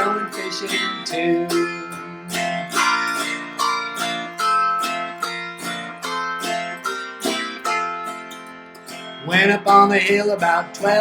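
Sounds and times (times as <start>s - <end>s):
autoharp plucked chords: 0.0s - 11.0s.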